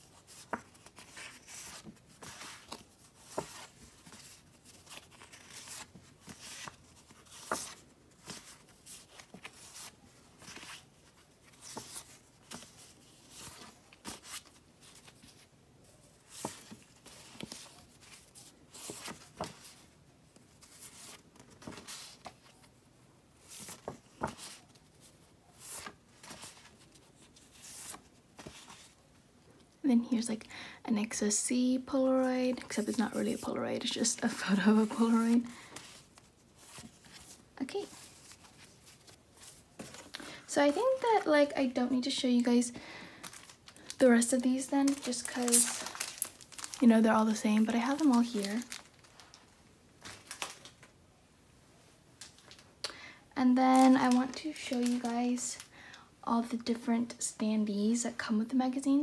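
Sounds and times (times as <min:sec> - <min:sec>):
postcards rustling as flipped: 0:00.0 - 0:22.8, 0:23.4 - 0:29.0, 0:32.4 - 0:51.0, 0:53.7 - 0:55.7.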